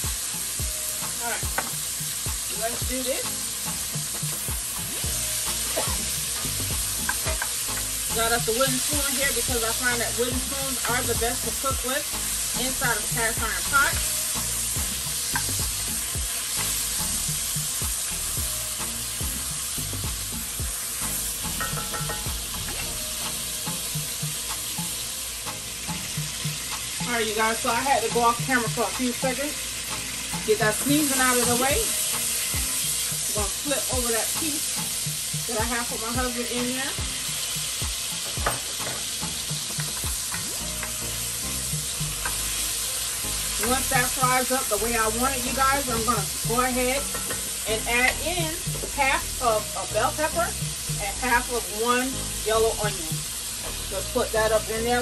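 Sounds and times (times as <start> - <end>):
meat sizzling in a pot: 0.0 - 55.0.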